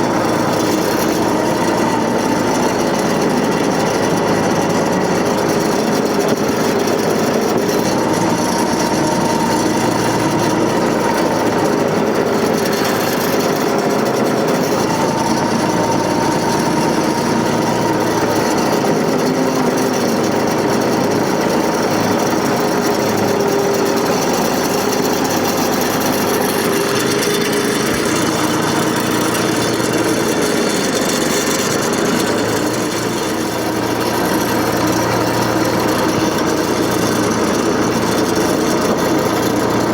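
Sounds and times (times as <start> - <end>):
backhoe running with whine: 0.0 - 39.9.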